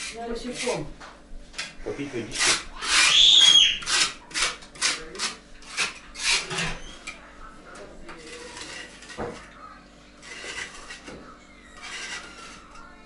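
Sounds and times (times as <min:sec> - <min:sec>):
scraping strokes on brick stove: 0:00.0 - 0:13.0.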